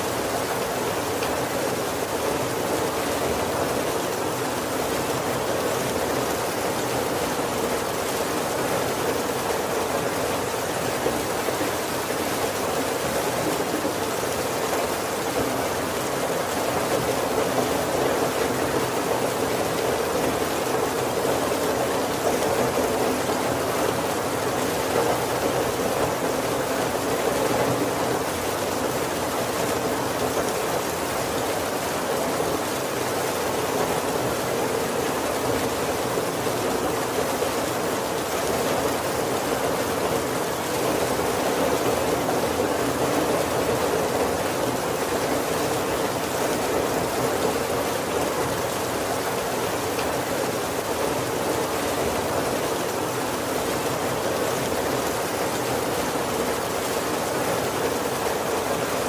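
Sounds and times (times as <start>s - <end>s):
heavy rain on wooden roof: 0.0s - 59.0s.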